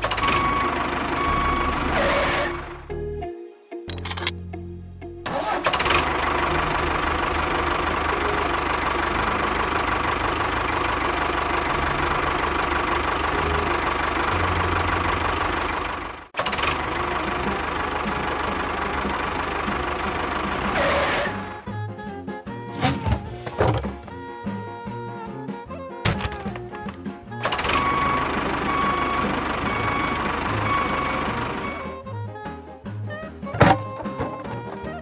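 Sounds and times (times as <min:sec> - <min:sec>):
engine chugging: 0:05.3 - 0:35.0.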